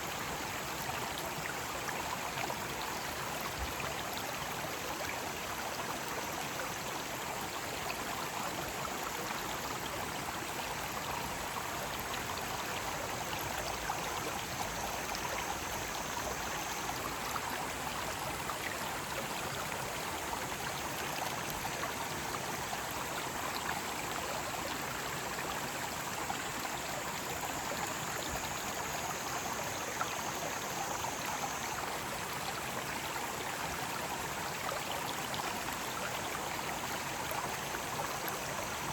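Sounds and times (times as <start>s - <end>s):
faint cicada drone: 0.0s - 38.9s
mountain stream rushing: 0.0s - 38.9s.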